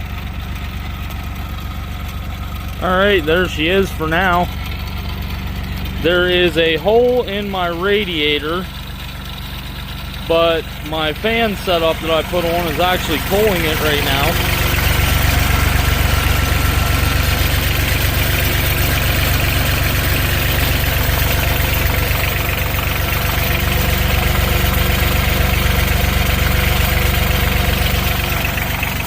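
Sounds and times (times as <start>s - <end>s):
diesel engine idling with rattle: 0.0s - 29.0s.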